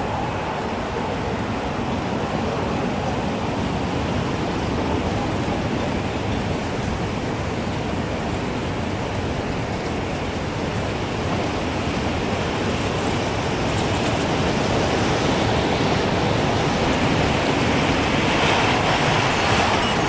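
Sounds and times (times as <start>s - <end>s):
gusting wind: 0.0s - 20.0s.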